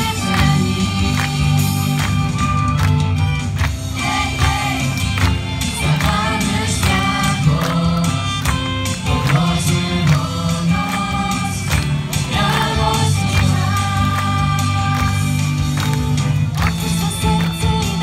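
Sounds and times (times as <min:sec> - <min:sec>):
choir singing over loudspeakers: 0:00.0 - 0:02.2, 0:03.9 - 0:15.9, 0:16.6 - 0:18.0
bass line: 0:00.0 - 0:18.0
percussion beat: 0:00.0 - 0:18.0.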